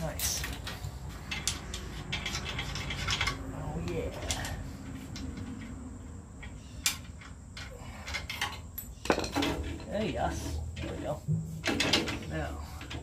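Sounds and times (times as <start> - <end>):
hand tools clinking against metal: 0.0 - 13.0.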